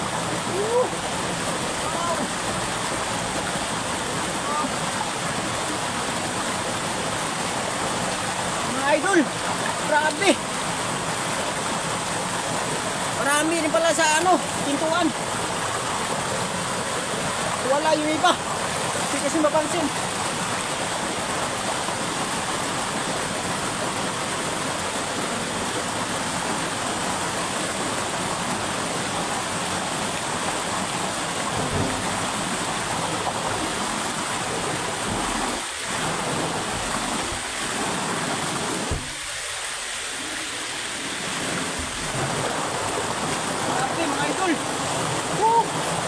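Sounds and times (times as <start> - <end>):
turbulent water rushing: 0.0 - 46.0.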